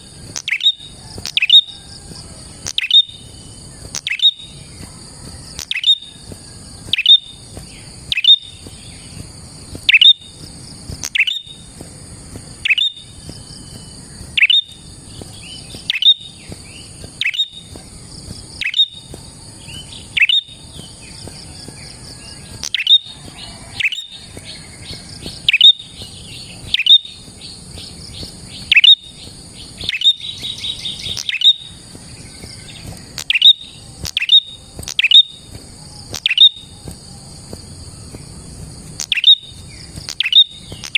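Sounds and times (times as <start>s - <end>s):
bird calling downward notes: 0.0s - 9.0s, 9.8s - 10.3s, 11.0s - 11.6s, 12.5s - 13.6s, 14.4s - 14.8s, 15.4s - 17.7s, 18.6s - 21.2s, 21.8s - 27.3s, 28.6s - 40.9s
bird rattling trill: 0.0s - 40.9s
high insect-like hiss: 0.0s - 40.9s.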